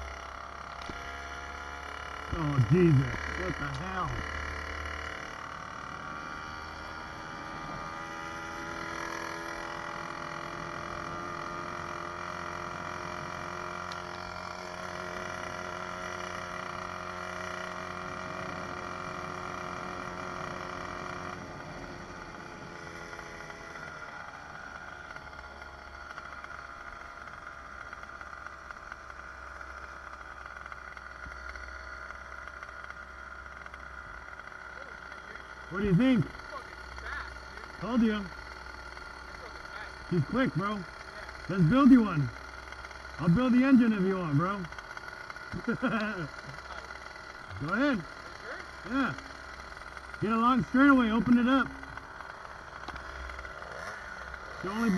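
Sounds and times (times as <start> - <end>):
two-stroke bicycle engine running: 0.0 - 54.9.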